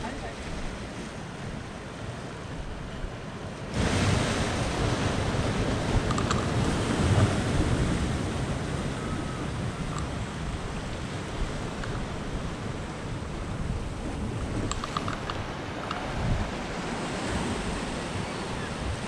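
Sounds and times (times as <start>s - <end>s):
sea surf on rocky shore: 0.0s - 19.0s
wind buffeting microphone: 0.0s - 19.0s.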